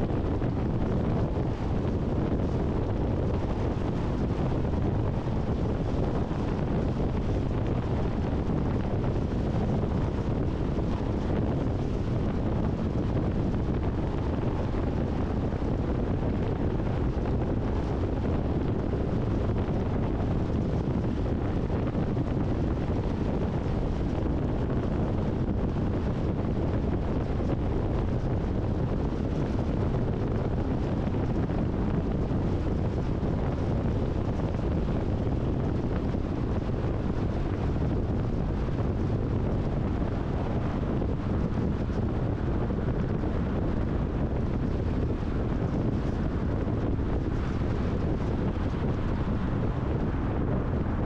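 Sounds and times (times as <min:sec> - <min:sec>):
car tyre and wind rumble: 0:00.0 - 0:51.0.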